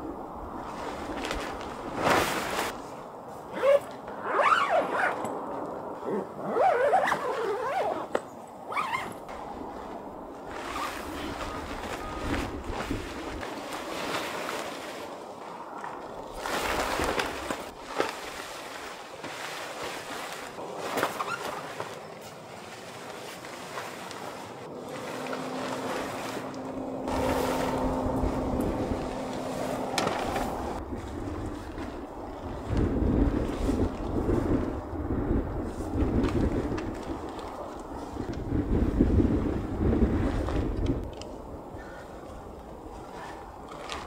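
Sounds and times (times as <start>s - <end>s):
tent fabric rustling and crinkling: 0.5s - 41.5s, 42.7s - 44.0s.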